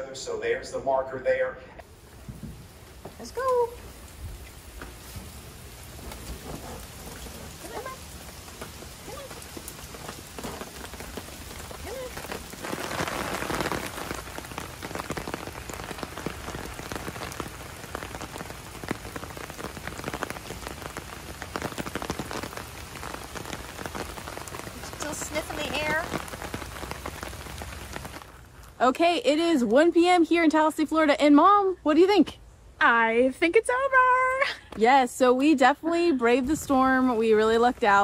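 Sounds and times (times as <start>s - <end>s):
heavy rain on pavement and grass: 1.8s - 29.8s, 33.7s - 38.0s.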